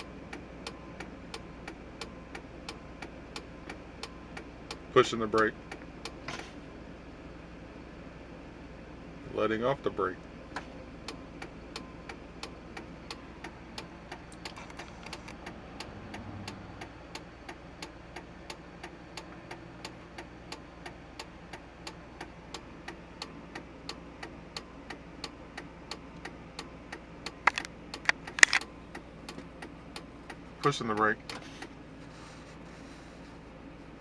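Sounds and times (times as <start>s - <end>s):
regular clicking under dashboard: 0.0s - 6.6s, 9.5s - 34.0s.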